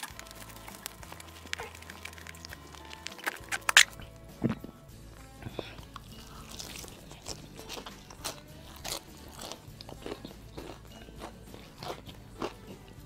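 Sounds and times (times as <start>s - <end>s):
crunching fried chicken: 0.0s - 4.7s, 5.5s - 13.0s.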